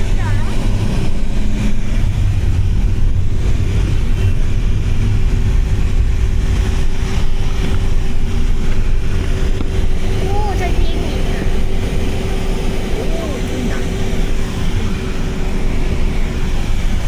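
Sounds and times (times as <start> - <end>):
constant hum: 0.0 - 17.0
vehicle engine drone: 0.0 - 17.0.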